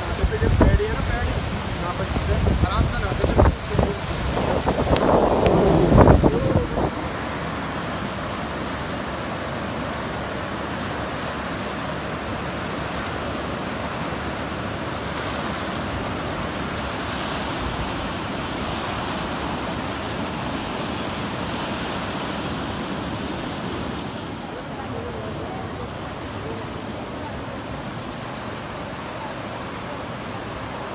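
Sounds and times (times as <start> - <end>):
fast river current rushing: 0.0 - 30.9.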